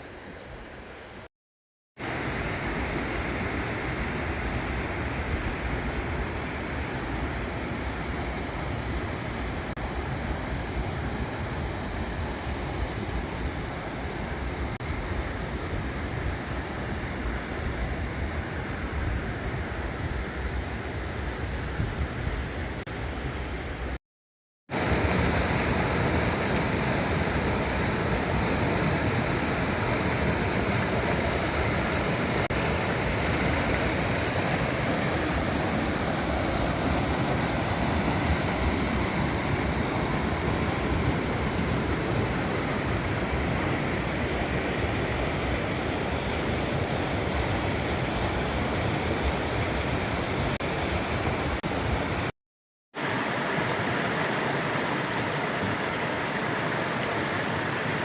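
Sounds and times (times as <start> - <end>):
river and waterfall rushing: 2.0 - 24.0, 24.7 - 52.3, 53.0 - 58.0.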